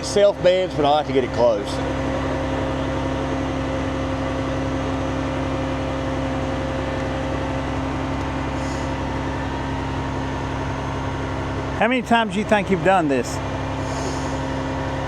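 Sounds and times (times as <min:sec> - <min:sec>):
fire truck engine rumble: 0:00.0 - 0:15.0
hydraulic system hum: 0:00.0 - 0:15.0.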